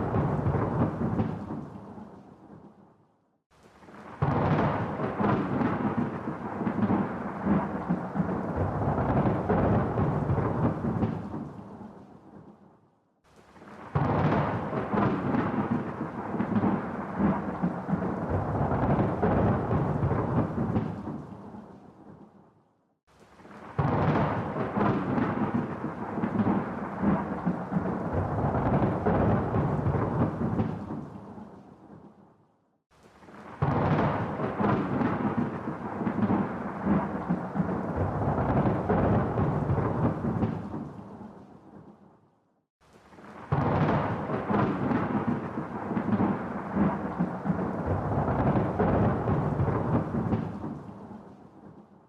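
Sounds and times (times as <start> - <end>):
thunder rolling: 0.0 - 2.6, 3.8 - 11.8, 13.6 - 22.2, 23.4 - 32.0, 33.2 - 41.2, 43.1 - 51.1.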